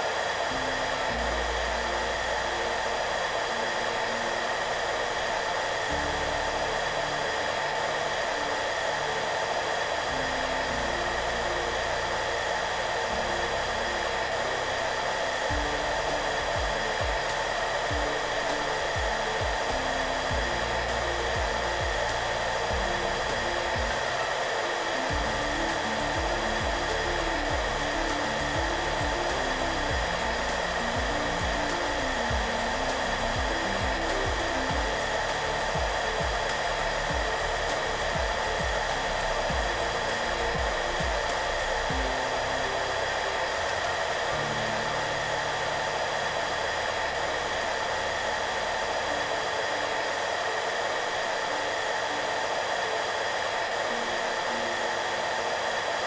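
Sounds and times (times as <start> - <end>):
hair dryer blowing: 0.0 - 56.0
soft background music: 0.0 - 56.0.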